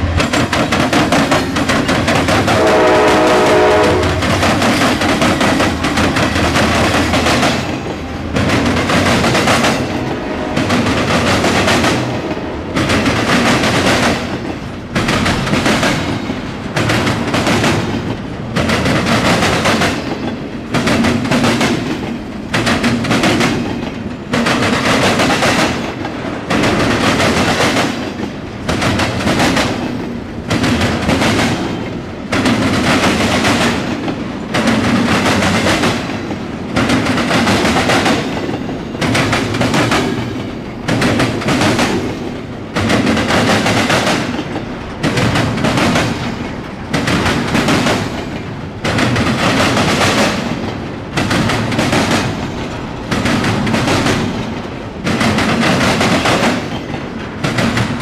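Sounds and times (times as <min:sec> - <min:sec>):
freight train rumble: 0:00.0 - 0:58.0
train wheels clacking on track: 0:00.0 - 0:58.0.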